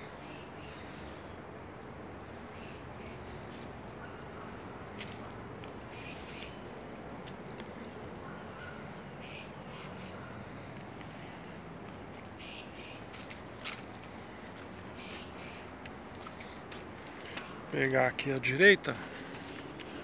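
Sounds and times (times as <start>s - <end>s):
birds chirping and trilling: 0.0s - 4.8s, 5.8s - 20.0s
low background noise: 0.0s - 20.0s.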